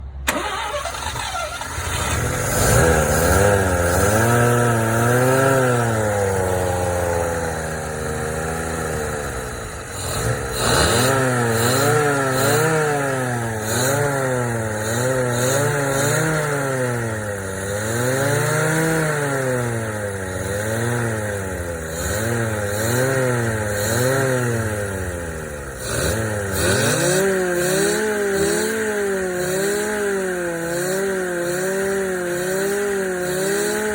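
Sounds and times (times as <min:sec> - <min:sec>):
rotary engine revving: 0:00.3 - 0:33.9.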